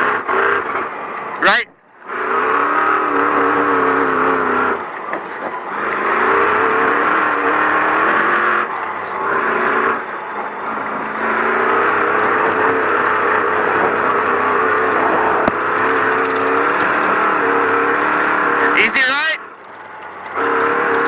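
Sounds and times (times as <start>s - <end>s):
steady rushing noise: 0.0s - 21.0s
truck engine running hard: 0.0s - 21.0s.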